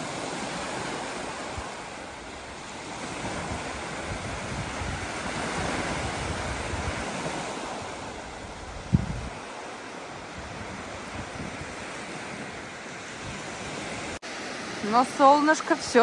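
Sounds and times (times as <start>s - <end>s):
wind buffeting microphone: 0.0s - 14.2s
waves washing onto sand: 0.0s - 16.0s.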